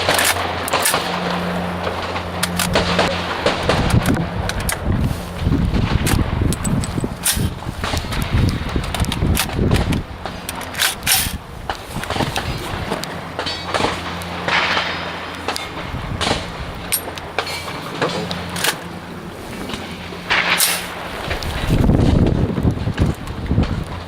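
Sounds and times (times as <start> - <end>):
low rumble: 0.0 - 24.0
sharp clicks and knocks: 0.0 - 24.0
steady low hum: 0.0 - 24.0.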